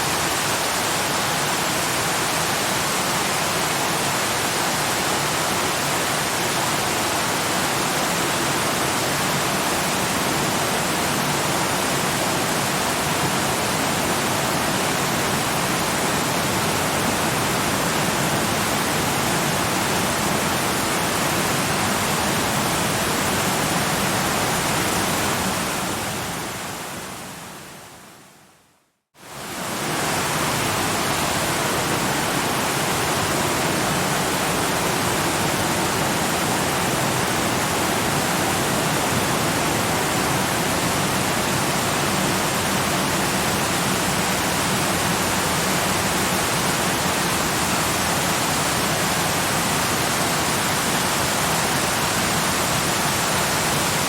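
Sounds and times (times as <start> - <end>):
waterfall rushing: 0.0 - 27.3, 29.2 - 54.0.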